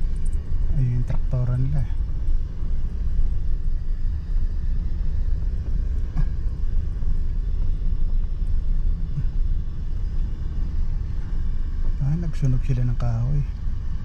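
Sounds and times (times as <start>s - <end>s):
truck engine and tyres on gravel: 0.0s - 14.0s.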